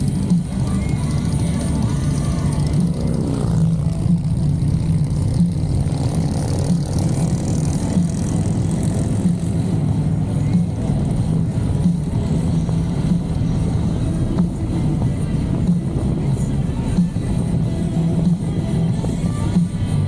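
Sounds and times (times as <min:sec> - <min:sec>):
motorcycle engines droning: 0:00.0 - 0:20.0.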